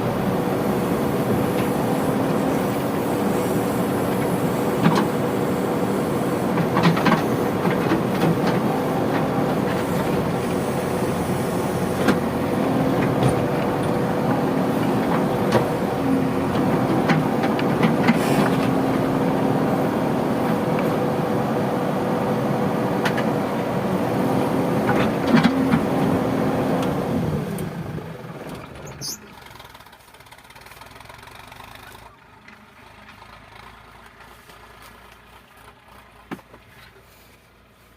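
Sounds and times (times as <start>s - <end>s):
diesel engines under load: 0.0s - 37.9s.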